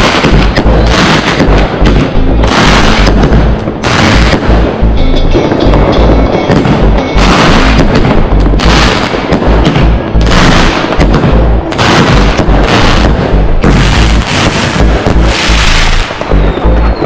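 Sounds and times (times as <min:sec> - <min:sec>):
fireworks bursting: 0:00.0 - 0:17.0
loud music with heavy bass beat: 0:00.0 - 0:17.0.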